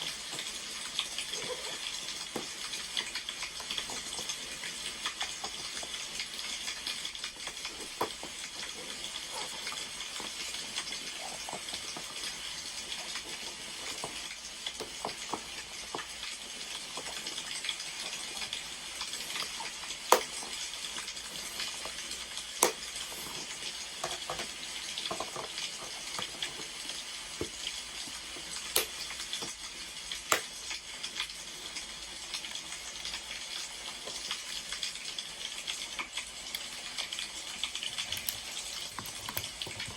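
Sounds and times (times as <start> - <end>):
wood fire crackling and popping: 0.1 - 31.4, 37.4 - 39.9.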